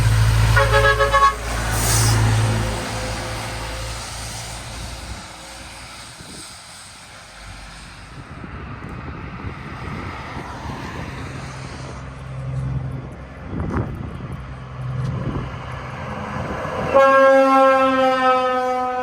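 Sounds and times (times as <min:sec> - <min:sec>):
diesel locomotive engine drone: 0:00.0 - 0:19.0
train rumbling by: 0:00.0 - 0:19.0.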